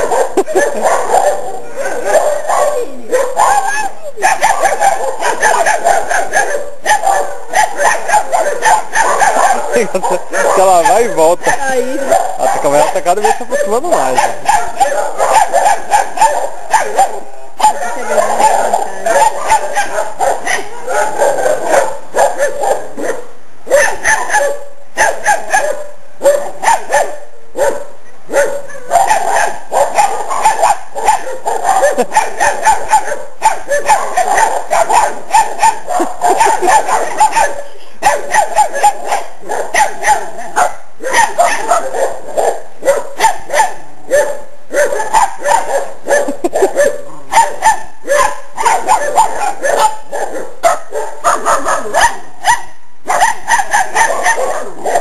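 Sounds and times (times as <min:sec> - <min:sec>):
puppies barking and yapping: 0:00.0 - 0:55.0.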